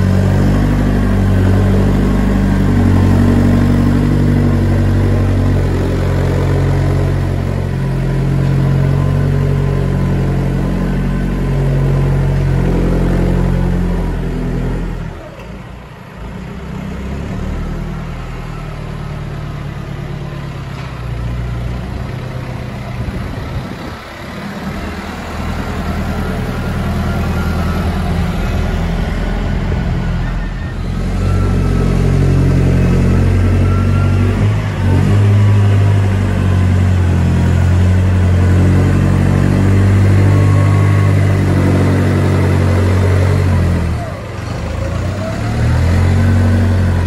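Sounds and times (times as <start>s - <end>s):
tractor diesel engine: 0.0s - 47.0s.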